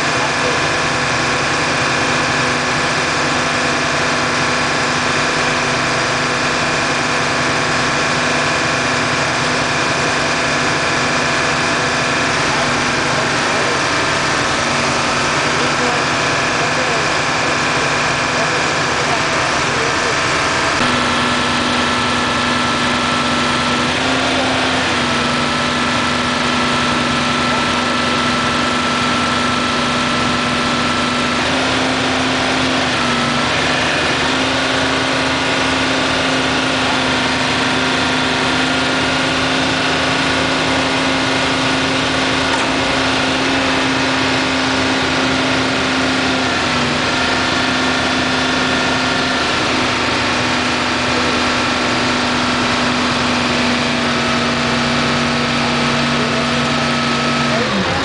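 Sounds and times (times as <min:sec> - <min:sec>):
engine idling with whine: 0:00.0 - 0:58.0.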